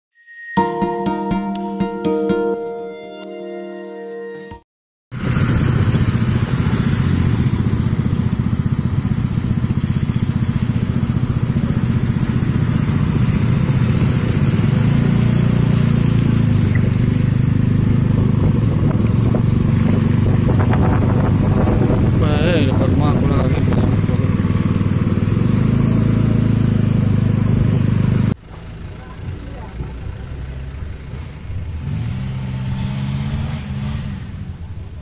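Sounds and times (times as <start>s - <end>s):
small motorcycle engine running: 5.1s - 35.0s
road and wind hiss: 5.2s - 35.0s.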